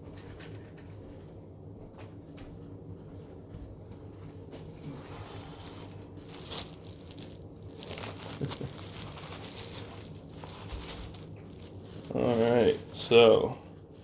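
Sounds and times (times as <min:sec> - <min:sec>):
low hum: 0:00.0 - 0:14.0
faint handling rustles: 0:00.1 - 0:14.0.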